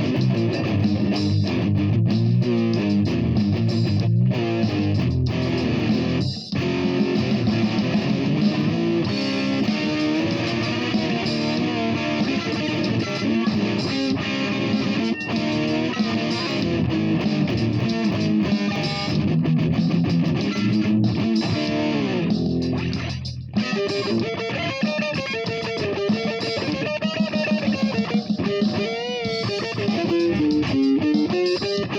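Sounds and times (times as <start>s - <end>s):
electric guitar playing: 0.0s - 31.9s.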